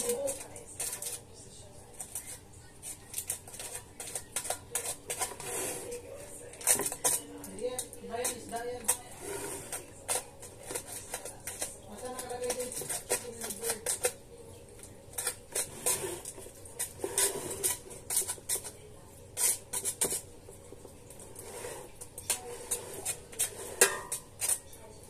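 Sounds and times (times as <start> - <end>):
dishes clinking and scraping: 0.0 - 25.0.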